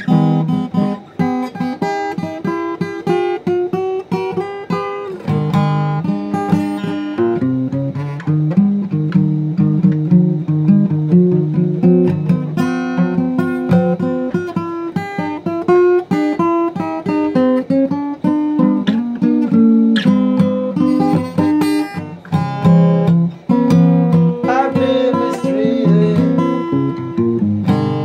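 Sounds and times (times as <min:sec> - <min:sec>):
acoustic guitar blues: 0:00.0 - 0:28.0.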